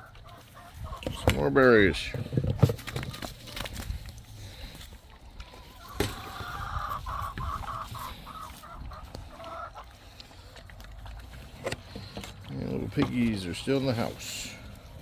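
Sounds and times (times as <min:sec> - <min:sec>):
hens clucking: 0:00.0 - 0:14.9.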